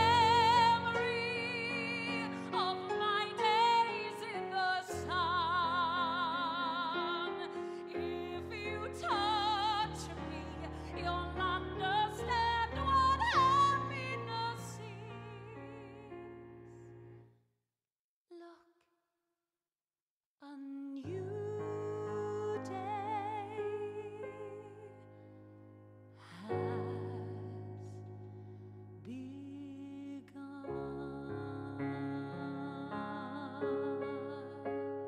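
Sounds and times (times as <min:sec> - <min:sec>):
woman singing operatic ballad: 0:00.0 - 0:16.3, 0:20.4 - 0:25.1, 0:26.2 - 0:28.2, 0:29.0 - 0:35.0.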